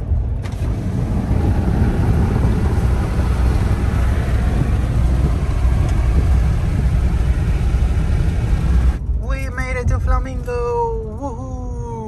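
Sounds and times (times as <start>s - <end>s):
vehicle engine low rumble: 0.0s - 12.0s.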